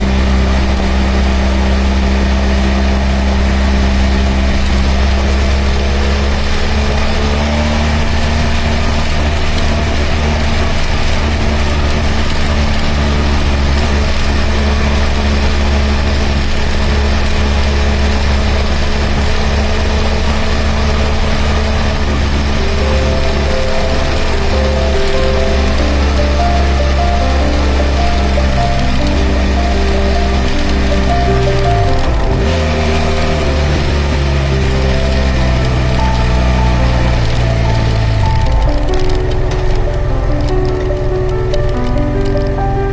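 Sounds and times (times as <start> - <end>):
motorcycle engine running: 0.0 - 42.8.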